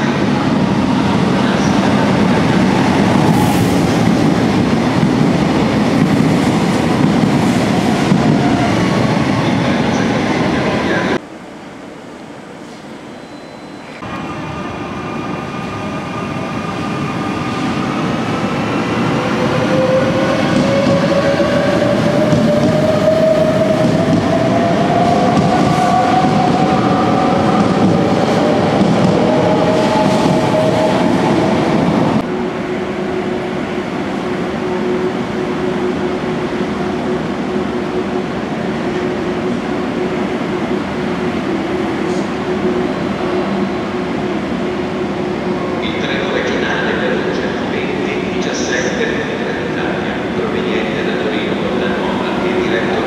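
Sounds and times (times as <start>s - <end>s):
train wheel and rail rumble: 0.0s - 53.0s.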